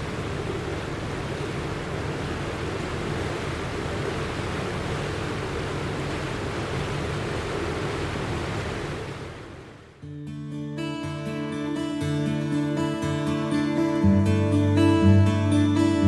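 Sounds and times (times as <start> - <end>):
water rushing: 0.0 - 10.1, 10.8 - 16.0.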